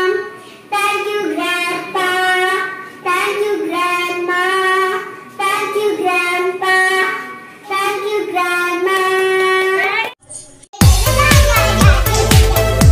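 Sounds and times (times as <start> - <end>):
girl singing: 0.0 - 9.3, 10.9 - 12.6.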